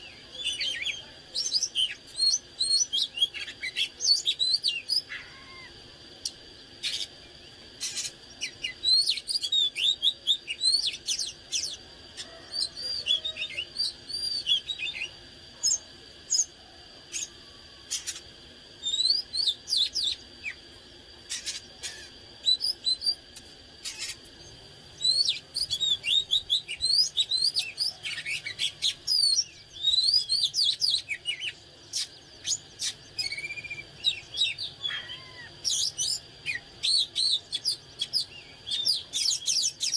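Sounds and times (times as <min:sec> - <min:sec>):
bird singing whistles and chirps: 0:00.0 - 0:16.5, 0:18.8 - 0:20.6, 0:21.3 - 0:23.2, 0:23.8 - 0:39.9.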